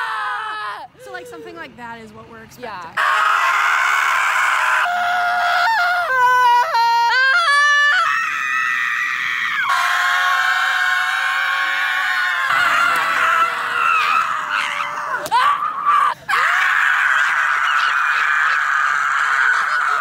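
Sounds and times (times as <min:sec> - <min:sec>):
people screaming: 0:00.0 - 0:00.9, 0:03.0 - 0:20.0.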